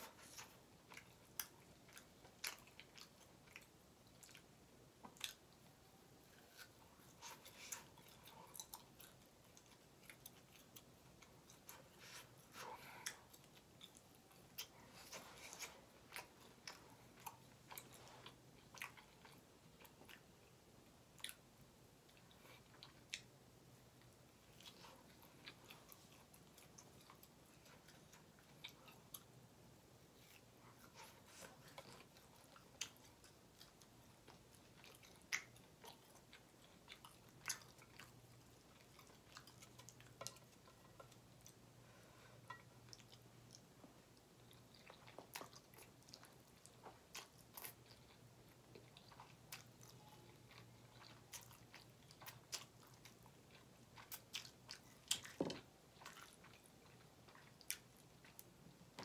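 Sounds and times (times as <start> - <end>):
chewing with wet clicks: 0.0 - 59.0.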